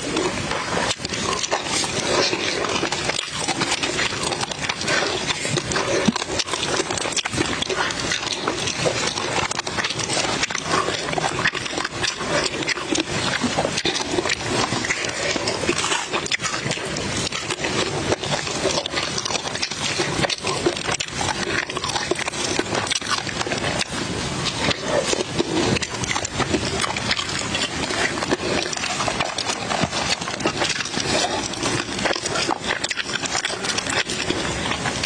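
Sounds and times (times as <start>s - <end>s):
crunchy chewing: 0.0s - 35.0s
grilled fish crackling: 0.0s - 35.0s.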